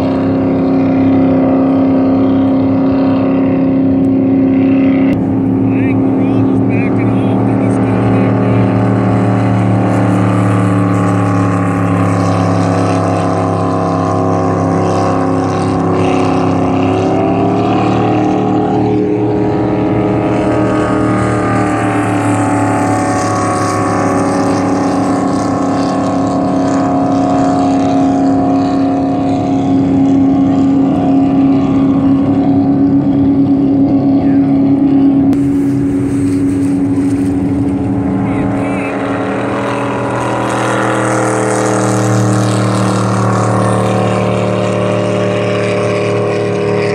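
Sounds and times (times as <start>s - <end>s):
jet boat engines droning: 0.0s - 46.9s.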